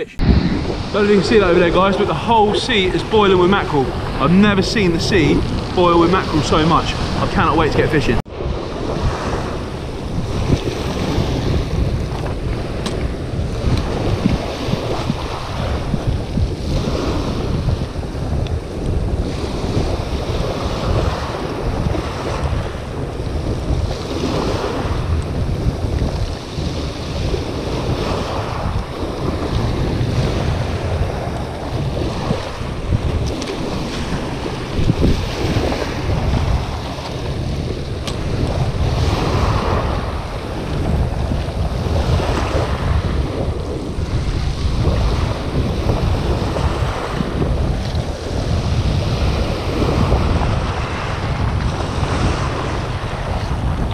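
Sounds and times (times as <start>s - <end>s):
waves washing up shingle beach: 0.0s - 53.9s
wind buffeting microphone: 0.0s - 53.9s.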